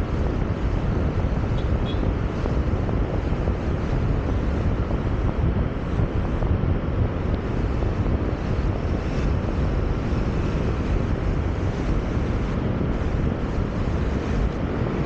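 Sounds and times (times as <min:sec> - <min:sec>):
car road noise: 0:00.0 - 0:15.0
wind rumble on microphone: 0:00.0 - 0:15.0.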